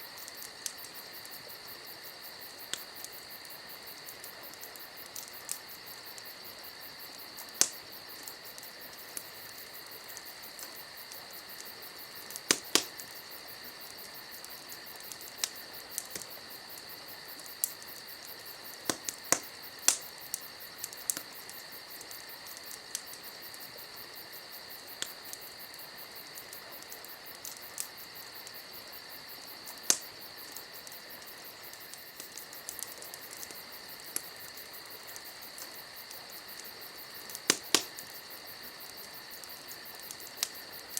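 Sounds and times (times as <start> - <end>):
campfire crackling and popping: 0.0 - 40.9
crickets chirring: 0.0 - 40.9.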